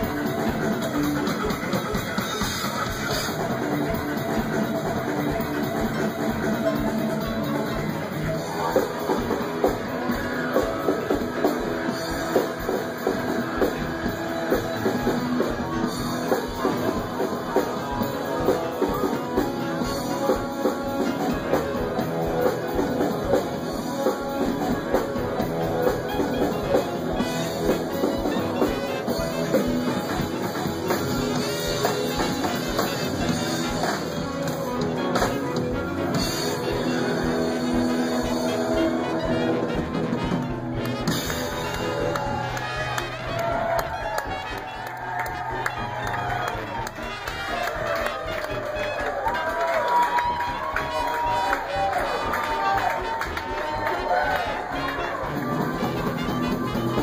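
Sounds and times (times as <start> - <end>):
drums playing steady beat: 0.0 - 57.0
rock band playing: 0.0 - 57.0.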